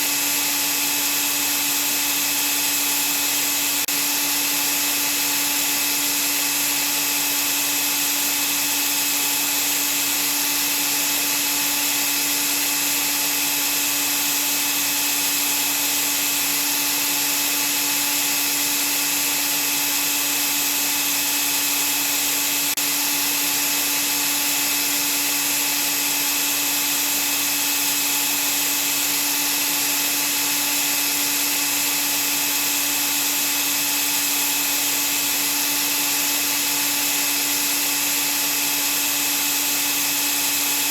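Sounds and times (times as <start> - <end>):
vacuum cleaner motor running: 0.0 - 40.9.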